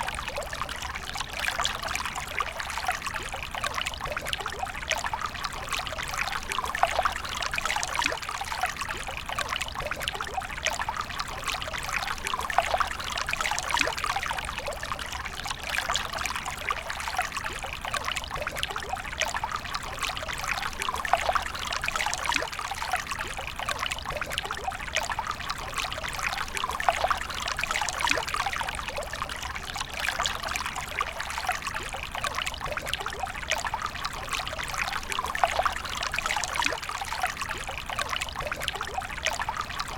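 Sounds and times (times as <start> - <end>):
water pouring and trickling: 0.0 - 39.9.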